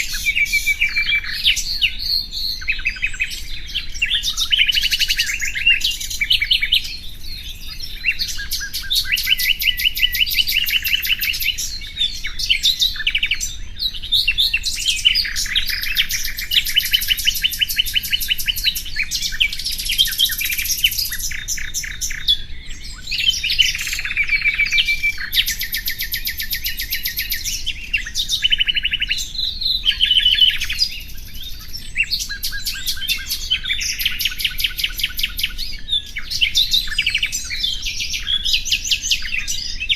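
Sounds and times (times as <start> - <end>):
nightingale singing trills: 0.0 - 39.9.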